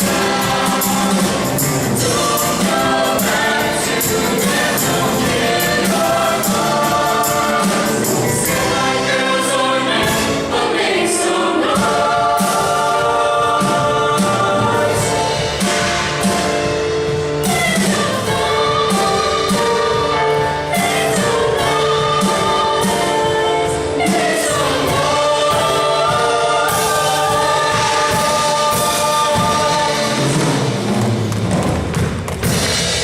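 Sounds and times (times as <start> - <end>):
group singing in harmony: 0.0 - 31.0.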